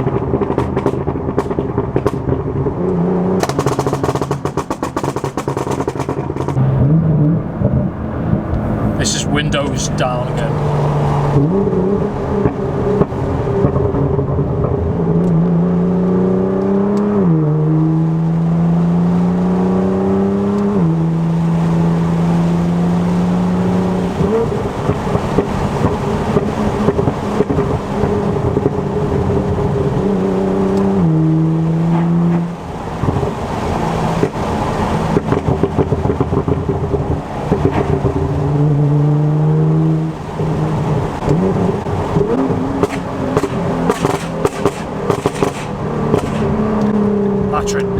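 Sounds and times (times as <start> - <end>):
car exhaust accelerating hard: 0.0 - 47.9.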